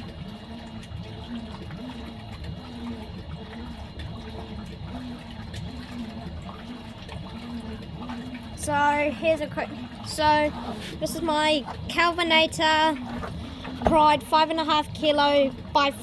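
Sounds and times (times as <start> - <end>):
washing machine motor whining: 0.0 - 16.0
water sloshing in tub: 0.0 - 16.0.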